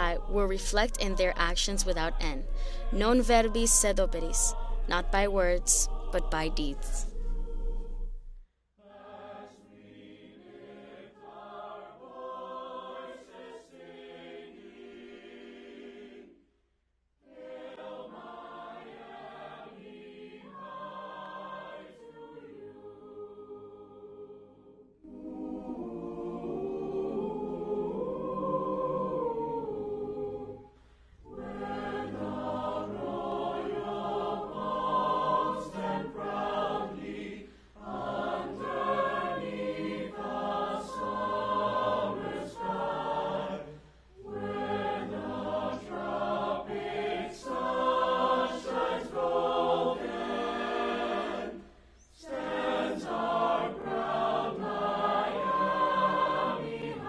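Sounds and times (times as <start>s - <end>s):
choir singing: 0.0s - 16.5s, 17.2s - 57.0s.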